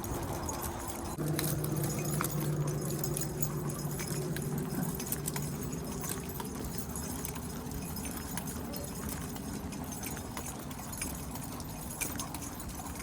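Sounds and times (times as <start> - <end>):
dog tags and leash jingling: 0.0 - 13.0
footsteps and paws on pavement: 0.0 - 13.0
low steady hum: 0.0 - 13.0.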